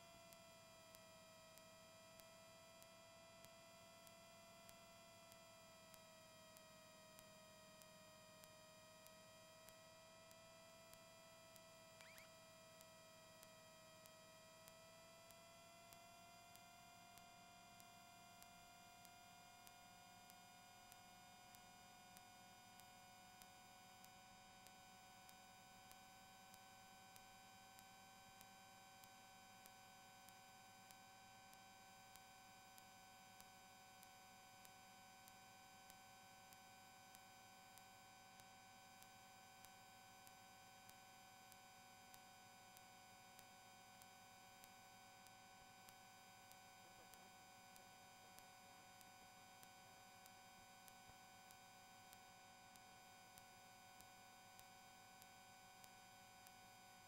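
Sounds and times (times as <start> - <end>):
faint electronic whine: 0.0 - 57.0
faint ticks: 0.0 - 57.0.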